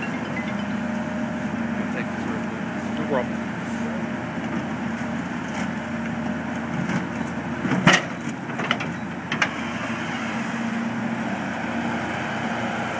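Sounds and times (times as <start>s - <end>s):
digging machine engine running: 0.0s - 12.9s.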